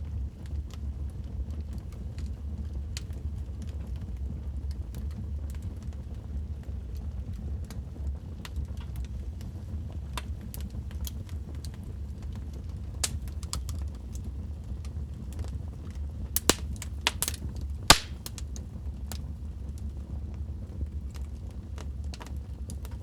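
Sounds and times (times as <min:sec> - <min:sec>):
wood fire crackling and popping: 0:00.3 - 0:23.0.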